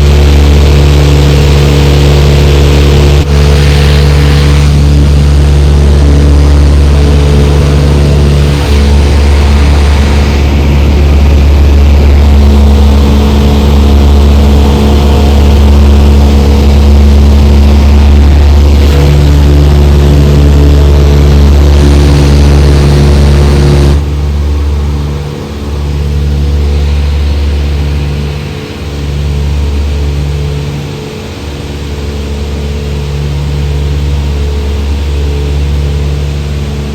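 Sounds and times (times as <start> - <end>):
light aircraft engine droning: 0.0 - 36.9.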